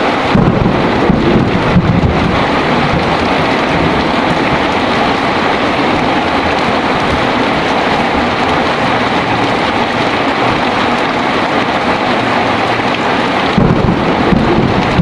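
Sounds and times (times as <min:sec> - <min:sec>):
heavy rain pouring: 0:00.0 - 0:15.0
thunder rumble: 0:00.1 - 0:15.0.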